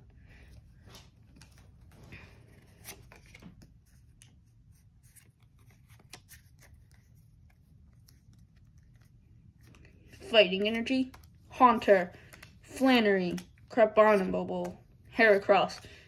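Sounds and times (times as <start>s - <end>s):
trading cards rustling and clicking: 0.4s - 16.0s.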